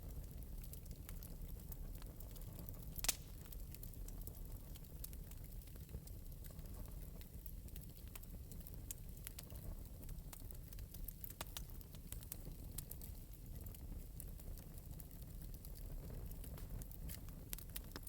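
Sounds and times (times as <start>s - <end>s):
fire crackling: 0.0s - 18.0s.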